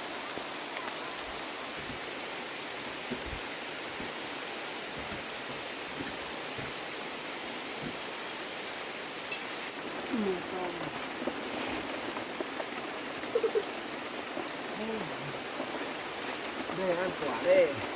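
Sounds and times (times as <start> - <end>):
steady rain: 0.0 - 17.9.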